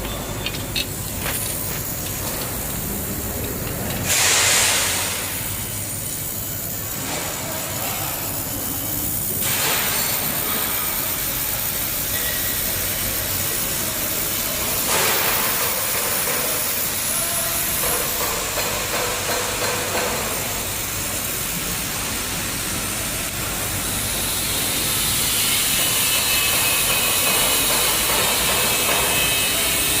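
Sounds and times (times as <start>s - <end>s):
laser welder hissing: 0.1s - 30.0s.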